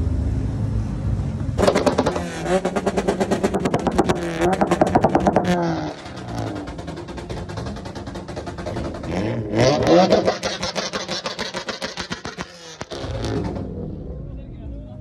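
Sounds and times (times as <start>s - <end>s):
car engine revving: 1.5s - 15.0s
exhaust crackling and popping: 1.6s - 14.5s.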